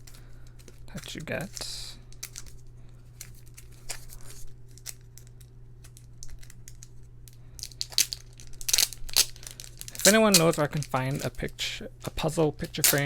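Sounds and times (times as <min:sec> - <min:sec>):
packaging rustling and crinkling: 0:00.0 - 0:11.5, 0:12.6 - 0:13.0
steady low hum: 0:00.0 - 0:13.0.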